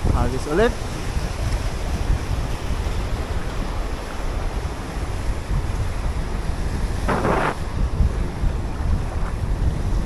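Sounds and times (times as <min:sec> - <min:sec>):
choppy sea waves washing: 0:00.0 - 0:10.0
wind buffeting microphone: 0:00.0 - 0:10.0.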